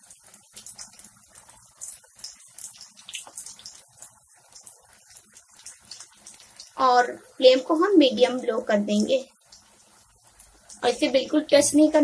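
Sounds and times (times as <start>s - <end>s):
food sizzling in hot oil: 0.0s - 12.0s
oil crackling and popping: 0.0s - 12.0s.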